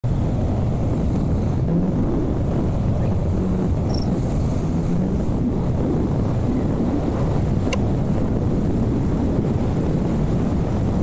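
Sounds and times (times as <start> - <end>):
motorcycle engine hum: 0.0 - 11.0
wind rush on microphone: 0.0 - 11.0.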